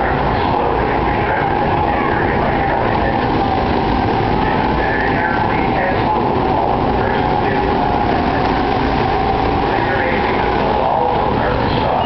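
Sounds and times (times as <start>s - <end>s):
go-kart engines droning: 0.0s - 12.0s.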